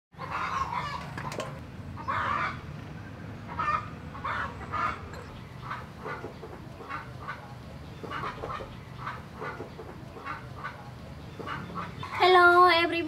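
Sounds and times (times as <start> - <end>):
chickens clucking: 0.2 - 12.4.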